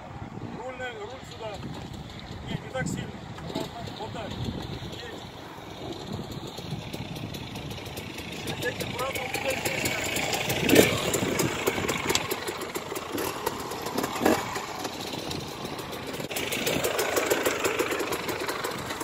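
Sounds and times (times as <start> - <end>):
vehicle engine at low speed: 0.0 - 19.0.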